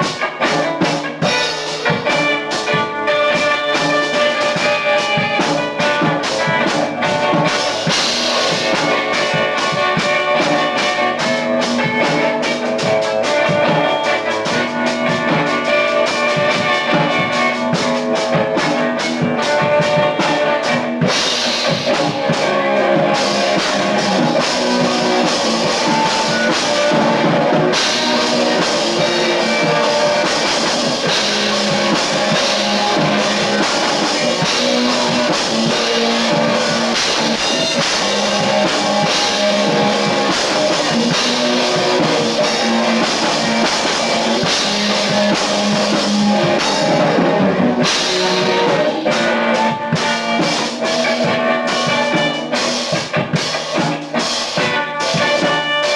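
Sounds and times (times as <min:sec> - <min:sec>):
drum kit: 0:00.0 - 0:55.9
electric guitar: 0:00.0 - 0:55.9.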